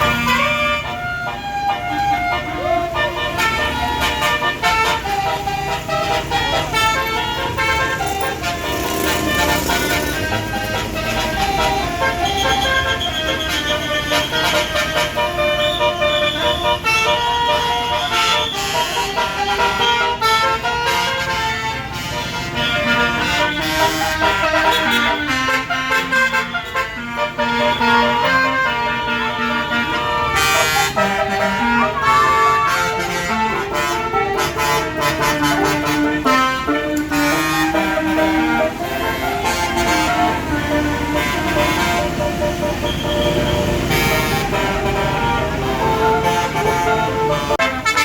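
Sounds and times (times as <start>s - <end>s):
bus melody horn playing a tune: 0.0s - 48.0s.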